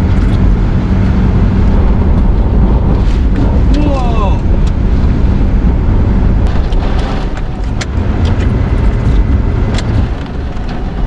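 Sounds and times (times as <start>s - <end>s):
strong wind gusting rumble: 0.0s - 11.0s.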